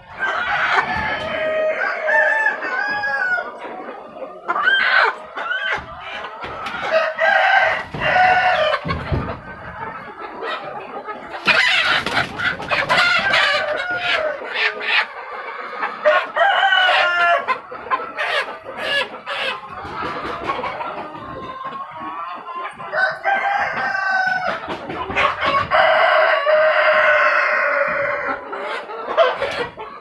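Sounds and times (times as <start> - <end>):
hens squawking and clucking: 0.0 - 30.0.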